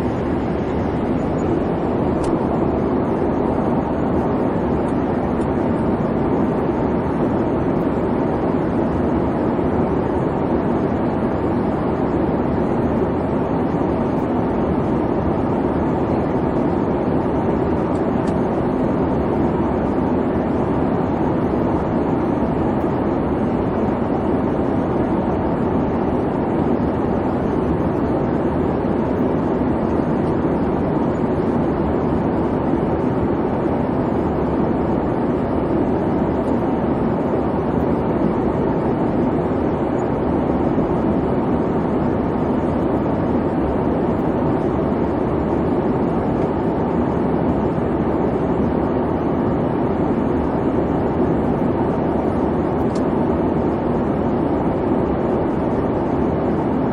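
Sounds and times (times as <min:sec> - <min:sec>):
airliner cabin rumble: 0:00.0 - 0:56.8.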